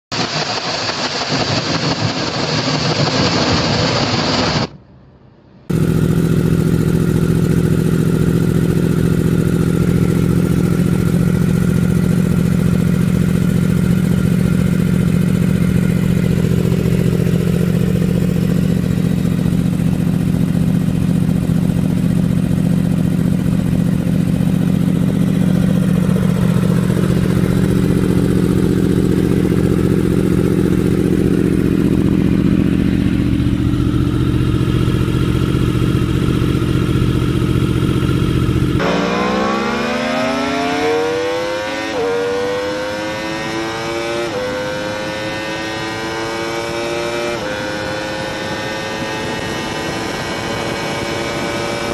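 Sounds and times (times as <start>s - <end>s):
motorcycle engine droning: 5.6s - 51.9s.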